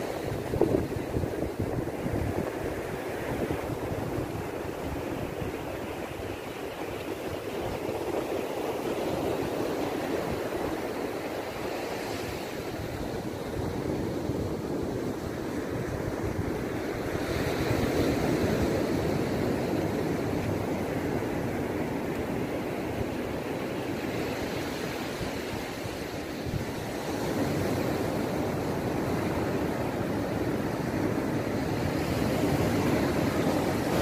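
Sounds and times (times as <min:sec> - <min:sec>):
surf washing onto beach: 0:00.0 - 0:34.0
wind buffeting microphone: 0:00.0 - 0:34.0.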